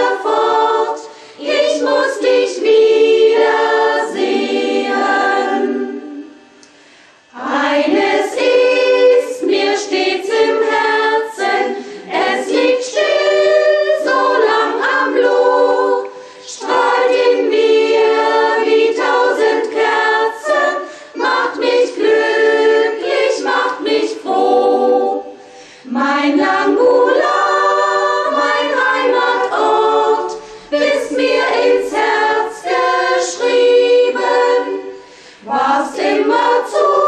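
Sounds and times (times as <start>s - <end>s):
choir singing: 0.0s - 6.6s, 7.2s - 37.0s.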